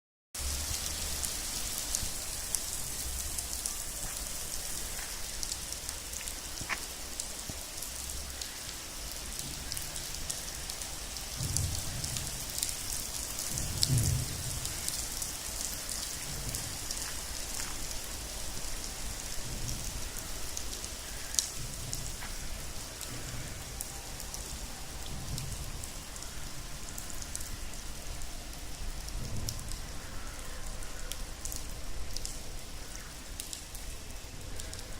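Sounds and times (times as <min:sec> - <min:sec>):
rain falling: 0:00.4 - 0:34.9.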